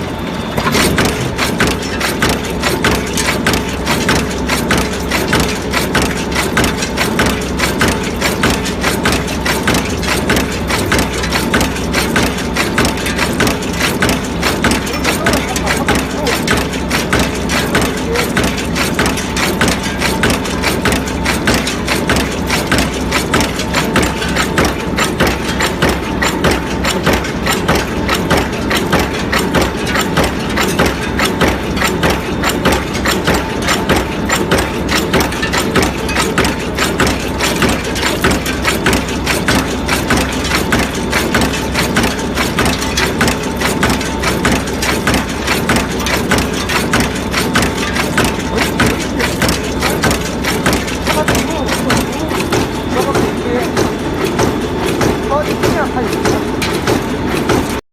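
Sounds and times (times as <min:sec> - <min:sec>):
forging machine knocking rhythmically: 0:00.0 - 0:57.8
steady mechanical tone: 0:00.0 - 0:57.8.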